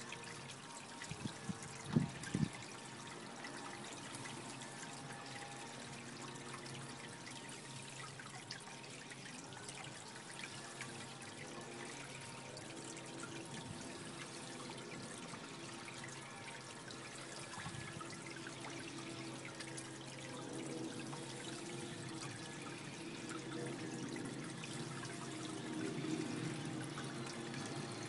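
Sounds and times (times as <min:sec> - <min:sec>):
fish splashing and slurping: 0:00.0 - 0:28.0
water trickling: 0:00.0 - 0:28.0.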